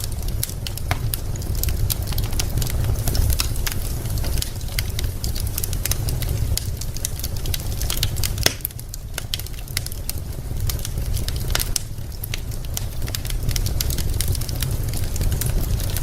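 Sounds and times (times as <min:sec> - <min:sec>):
burning logs popping: 0:00.0 - 0:16.0
wood fire crackling: 0:00.0 - 0:16.0.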